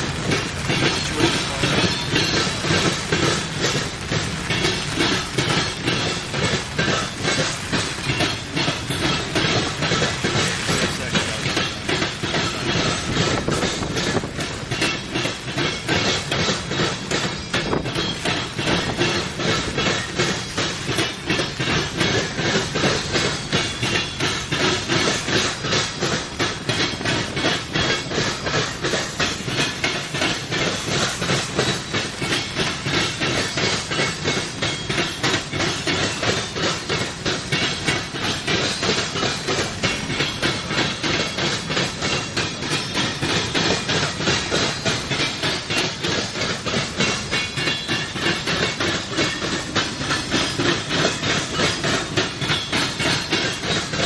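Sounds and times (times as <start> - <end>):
train wheels clicking on rails: 0.0 - 54.0
wheel-on-rail hiss: 0.0 - 54.0.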